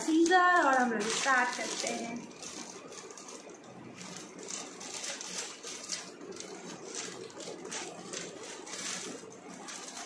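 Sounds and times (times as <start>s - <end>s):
plastic crinkling: 0.0s - 10.0s.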